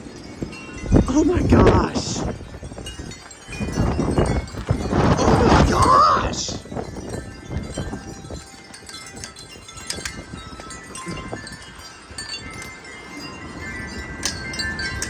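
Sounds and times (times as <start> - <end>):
metal wind chimes ringing: 0.0 - 15.0
wind rumbling on microphone: 0.0 - 15.0.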